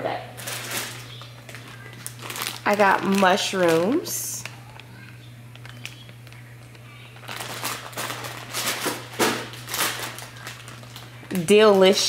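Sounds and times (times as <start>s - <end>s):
packaging rustling: 0.4s - 12.0s.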